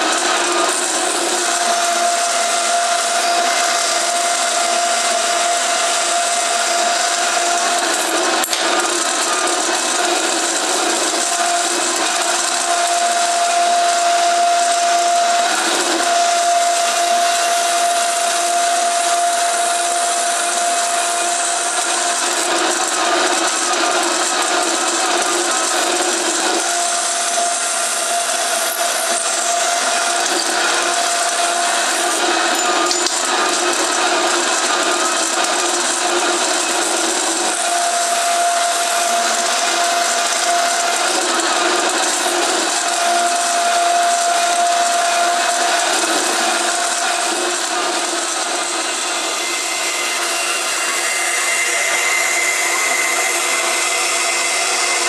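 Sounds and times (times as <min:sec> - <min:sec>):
power saw cutting metal: 0:00.0 - 0:55.0.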